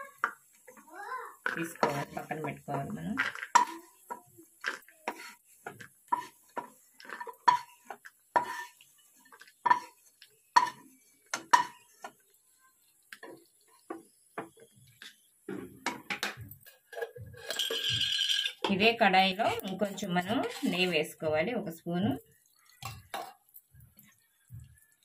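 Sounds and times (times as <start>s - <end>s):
spatula tapping and scraping pan: 0.0s - 21.1s, 22.0s - 25.0s.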